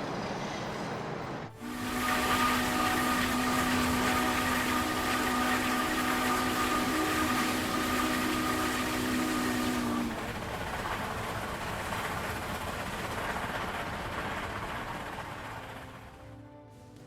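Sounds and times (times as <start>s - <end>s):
machine humming with steady whine: 0.0s - 17.0s.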